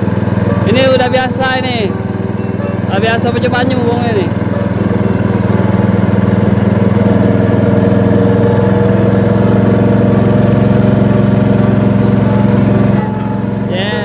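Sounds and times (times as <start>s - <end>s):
small boat engine droning: 0.0s - 14.0s.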